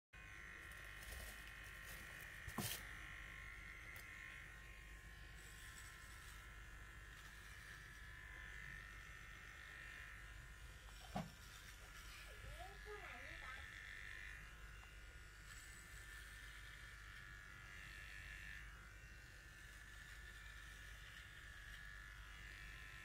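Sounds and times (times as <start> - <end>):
pet hair clipper buzzing: 0.2 - 23.0.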